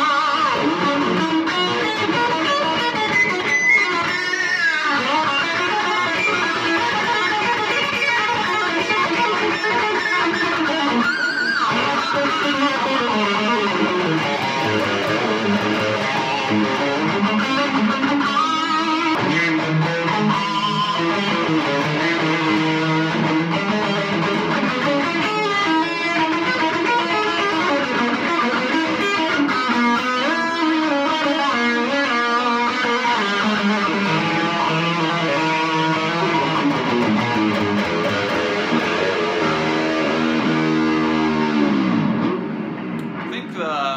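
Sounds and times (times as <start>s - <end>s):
electric guitar riffs: 0.0s - 43.9s.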